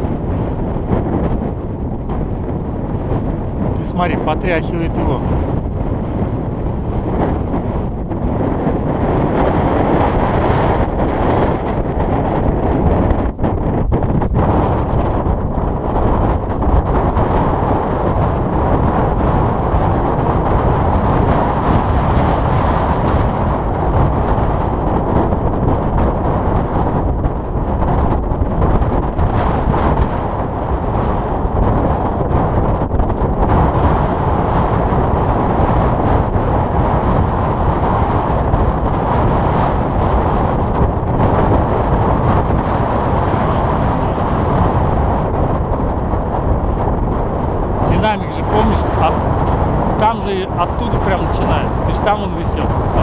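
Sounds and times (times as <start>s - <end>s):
strong wind on microphone: 0.0s - 53.0s.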